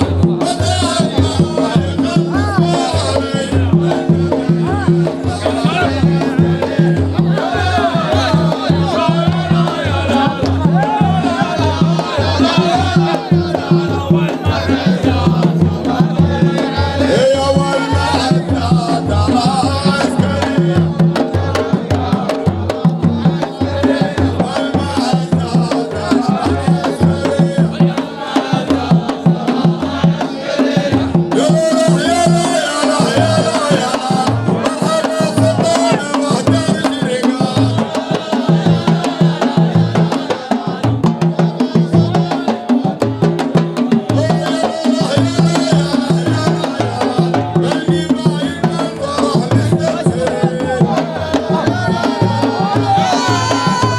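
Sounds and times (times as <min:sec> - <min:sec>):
hand drums beating: 0:00.0 - 0:53.9
people singing: 0:00.0 - 0:53.9.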